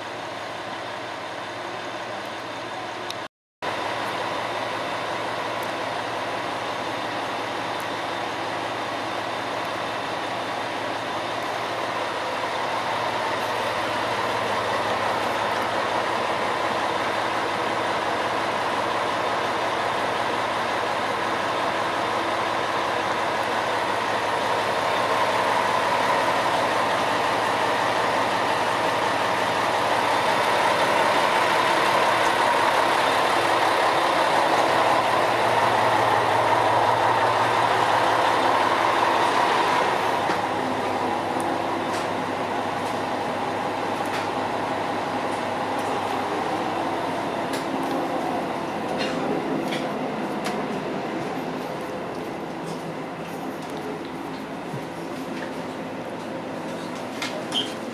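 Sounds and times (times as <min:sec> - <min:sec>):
diesel railcar engine idling: 0:00.0 - 0:57.9.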